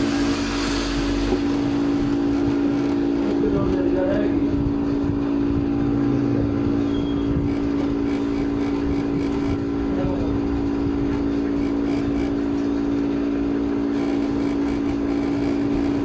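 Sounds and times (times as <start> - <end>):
rough rumble: 0.0 - 16.0
steady low hum: 0.0 - 16.0.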